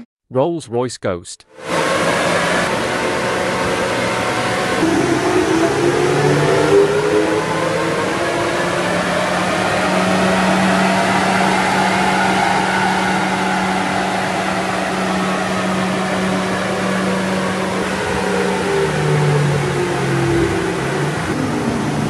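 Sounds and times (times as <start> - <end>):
car engine droning on dyno: 1.6 - 22.0.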